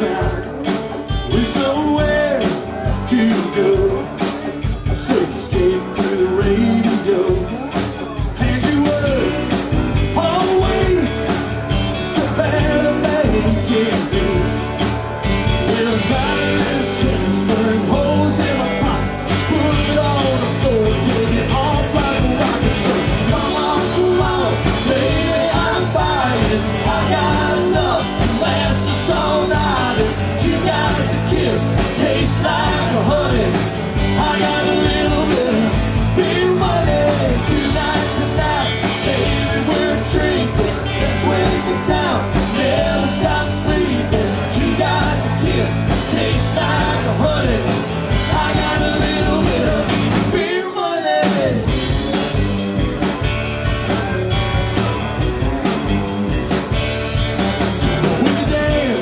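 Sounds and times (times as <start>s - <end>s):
man singing: 0.0s - 52.3s, 58.0s - 59.0s
live rock band playing: 0.0s - 59.0s.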